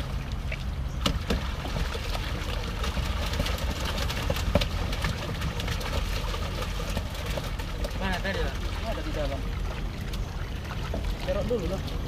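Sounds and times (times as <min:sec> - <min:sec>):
low motor hum: 0:00.0 - 0:12.0
water dripping and splashing: 0:00.0 - 0:12.0.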